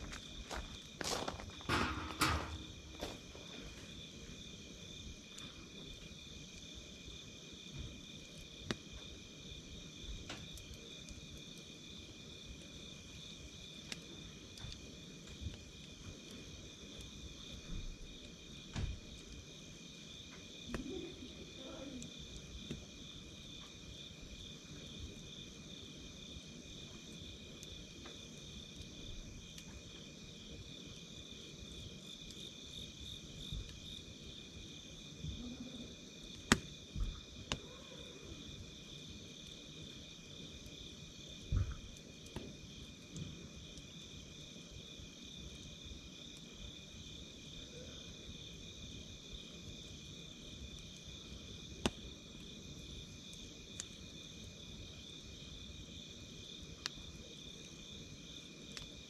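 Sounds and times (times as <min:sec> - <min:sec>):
campfire crackling and popping: 0:00.0 - 0:47.6, 0:48.5 - 0:59.0
night insects trilling: 0:00.0 - 0:59.0.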